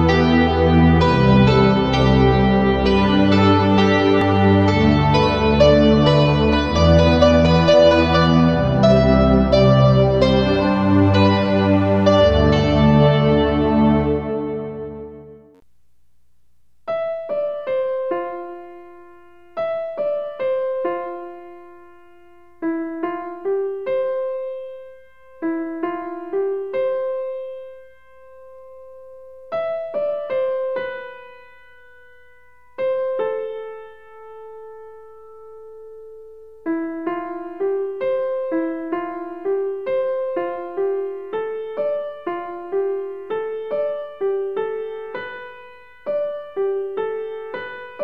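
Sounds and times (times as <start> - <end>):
gentle piano melody: 0.0 - 15.6, 16.9 - 48.0.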